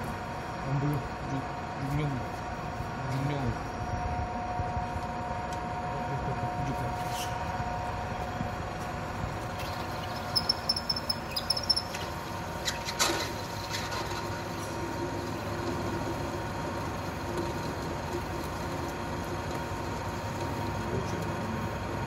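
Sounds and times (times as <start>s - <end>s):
lathe motor and gearbox hum: 0.0s - 22.0s.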